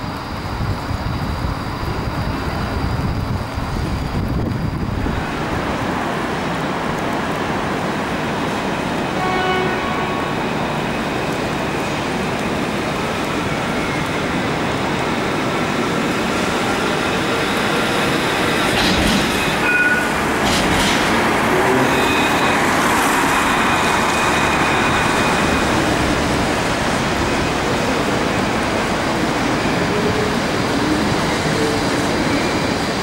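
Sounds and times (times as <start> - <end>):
tram passing on wet track: 0.0 - 33.0
wet road traffic hiss: 0.0 - 33.0.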